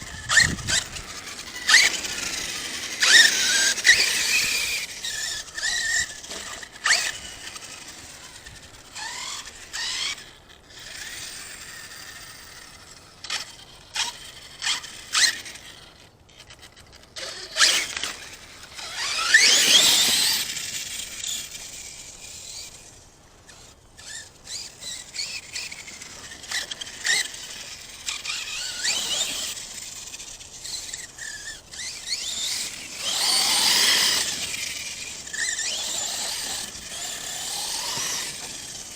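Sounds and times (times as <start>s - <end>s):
rc truck motor whining: 0.0s - 38.9s.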